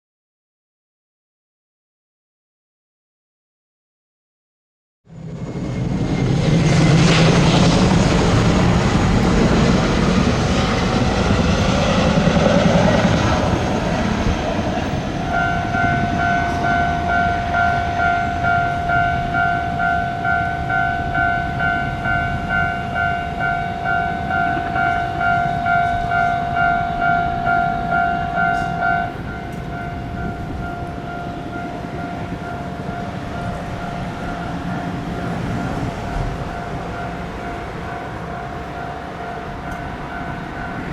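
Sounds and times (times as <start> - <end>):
train rumbling past: 5.1 - 40.9
crossing warning alarm: 6.6 - 40.9.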